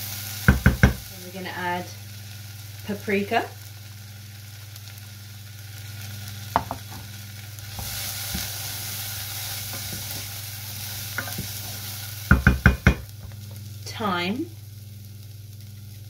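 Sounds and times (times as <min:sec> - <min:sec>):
onion frying in oil: 0:00.0 - 0:16.0.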